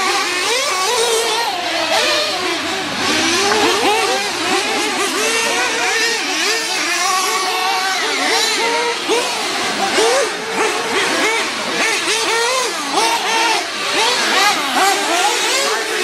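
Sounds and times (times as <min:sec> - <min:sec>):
small two-stroke engines revving: 0:00.0 - 0:16.0.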